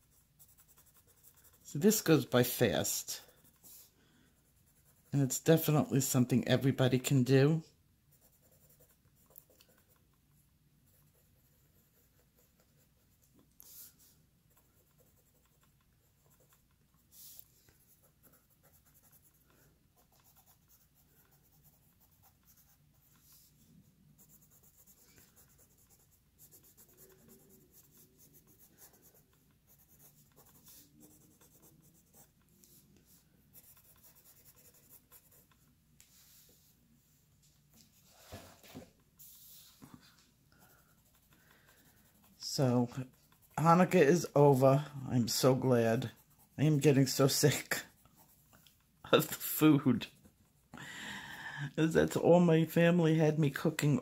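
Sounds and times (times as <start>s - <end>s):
colored pencil scratching on paper: 0.0s - 7.1s, 8.1s - 36.8s, 37.9s - 50.7s.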